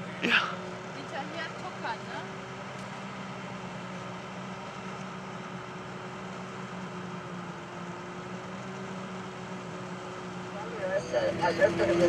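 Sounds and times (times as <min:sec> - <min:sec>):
diesel engines humming: 0:00.0 - 0:12.0.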